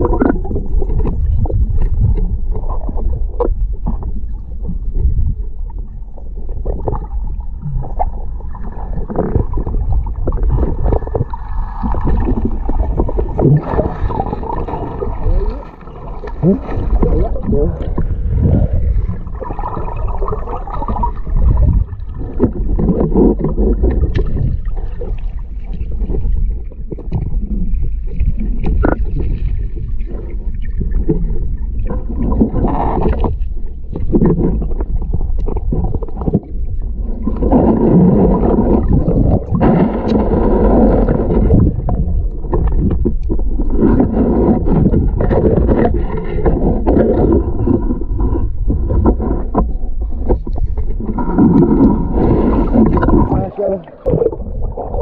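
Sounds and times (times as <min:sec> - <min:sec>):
underwater rumble of moving water: 0:00.0 - 0:55.0
water gurgling: 0:00.0 - 0:55.0.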